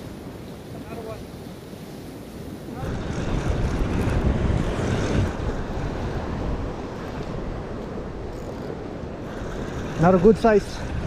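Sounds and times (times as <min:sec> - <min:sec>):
ocean surf washing against rocks: 0:00.0 - 0:11.0
wind buffeting microphone: 0:00.0 - 0:11.0.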